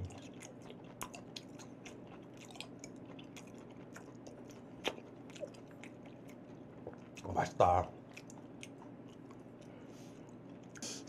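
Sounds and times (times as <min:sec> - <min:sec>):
wet chewing mouth clicks: 0:00.0 - 0:07.3, 0:08.0 - 0:09.8.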